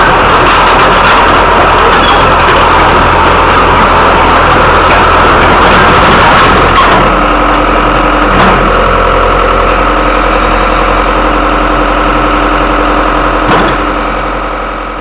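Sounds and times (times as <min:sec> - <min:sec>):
excavator diesel engine idling: 0:00.0 - 0:15.0.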